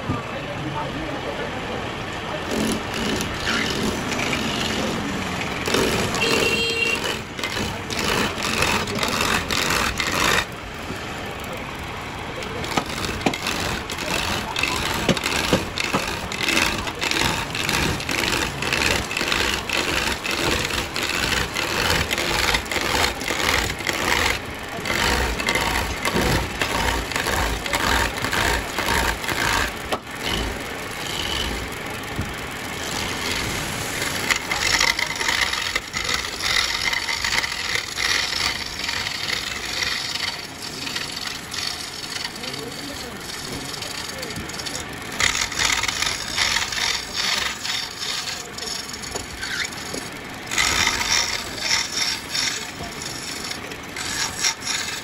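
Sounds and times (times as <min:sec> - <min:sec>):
lathe chisel scraping wood: 0:02.4 - 0:11.6, 0:12.4 - 0:55.0.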